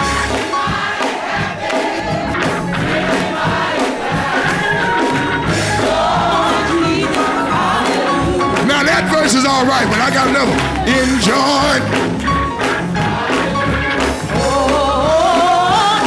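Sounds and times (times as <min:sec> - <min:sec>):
congregation singing: 0:00.0 - 0:16.0
instrumental accompaniment: 0:00.0 - 0:16.0.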